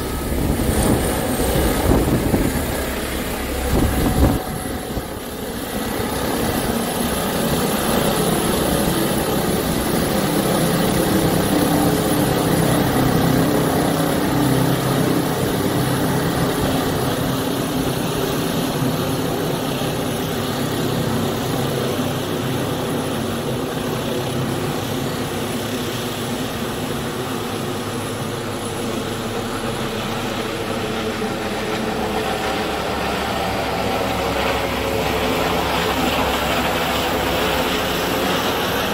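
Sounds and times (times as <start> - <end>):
helicopter rotor and engines: 0.0 - 38.9.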